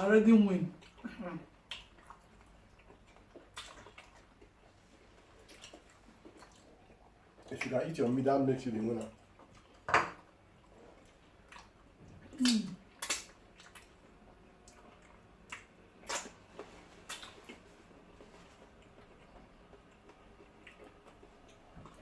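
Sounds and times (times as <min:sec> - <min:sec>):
mouths chewing with wet smacks: 0:00.7 - 0:07.9, 0:08.9 - 0:22.0.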